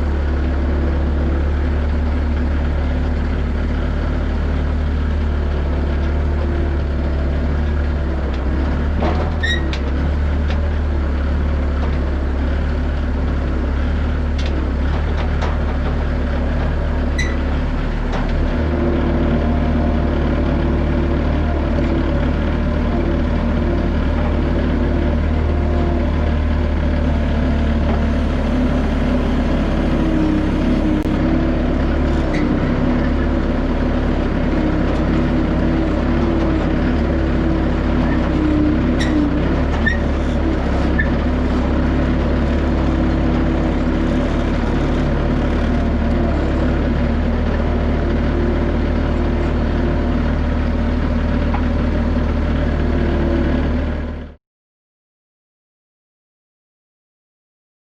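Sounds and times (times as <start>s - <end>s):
skid steer engine running: 0.0s - 54.4s.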